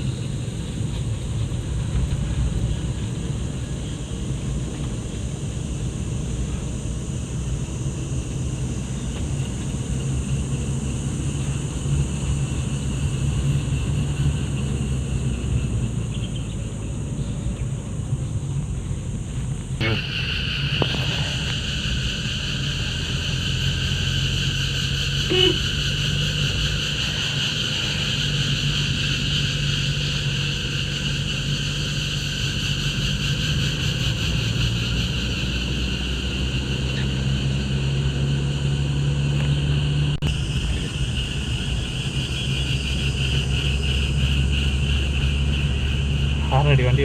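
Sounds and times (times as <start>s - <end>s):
forest insects droning: 0.0s - 47.0s
vehicle engine and road noise: 0.0s - 47.0s.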